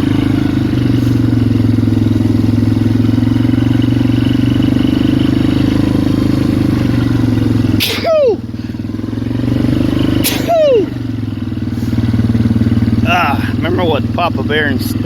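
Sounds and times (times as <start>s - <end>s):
atv engine running steadily: 0.0s - 15.0s.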